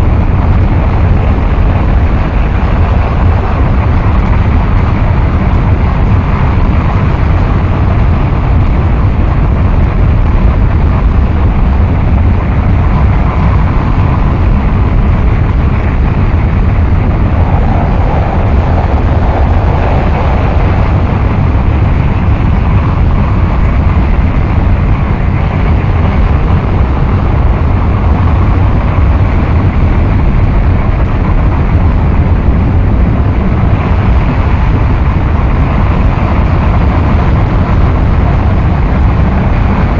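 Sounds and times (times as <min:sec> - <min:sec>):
harsh noise wall rumbling: 0:00.0 - 0:39.9.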